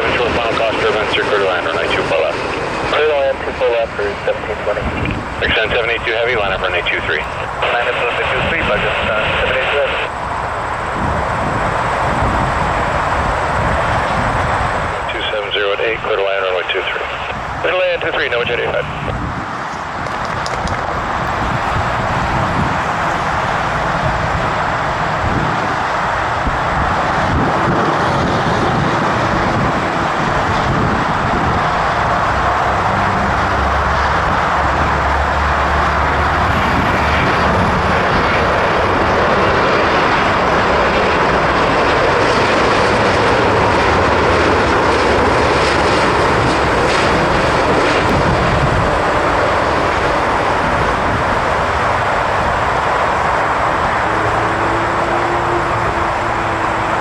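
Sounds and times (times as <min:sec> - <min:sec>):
jet airliner engines: 0:00.0 - 0:57.0.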